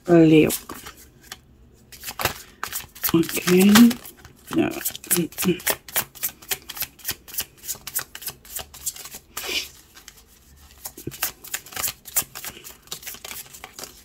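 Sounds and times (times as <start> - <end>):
cards being shuffled: 0.4 - 14.0.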